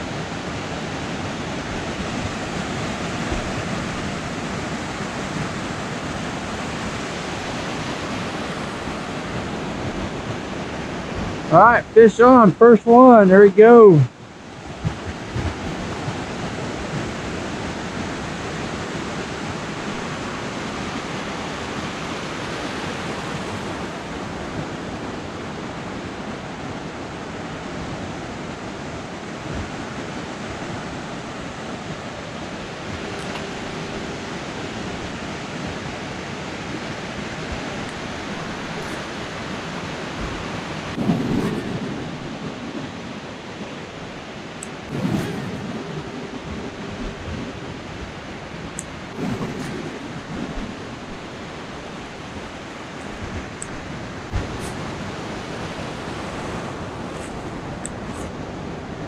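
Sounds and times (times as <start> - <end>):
ocean surf on beach: 0.0 - 59.0.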